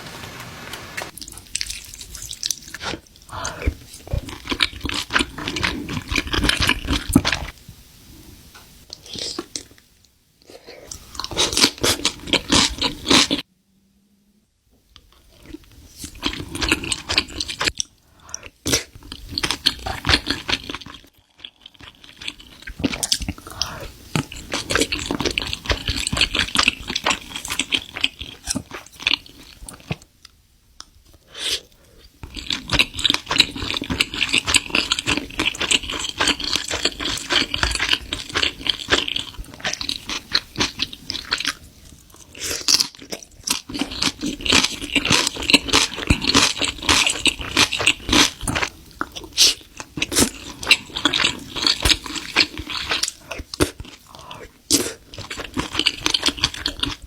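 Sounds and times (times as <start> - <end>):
crunchy chewing of food: 1.1 - 7.6, 10.4 - 13.4, 15.1 - 30.1, 30.8 - 57.0.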